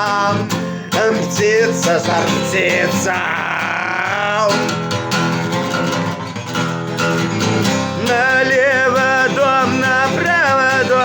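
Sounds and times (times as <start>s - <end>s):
person singing: 0.0s - 6.3s, 7.8s - 11.0s
acoustic guitar strumming chords: 0.0s - 11.0s.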